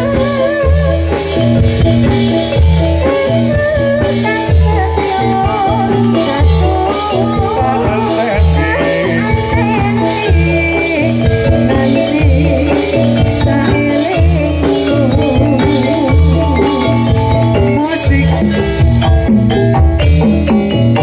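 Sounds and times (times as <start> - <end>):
metallophones playing melody: 0.0 - 21.0.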